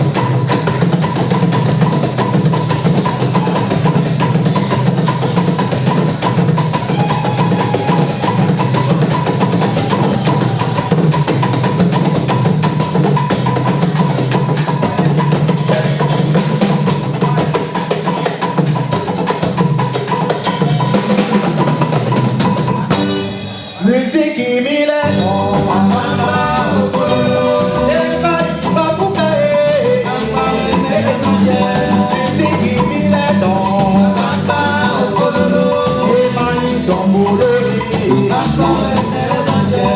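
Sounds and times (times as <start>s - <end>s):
music with drum-kit beat: 0.0s - 23.9s, 25.0s - 39.9s.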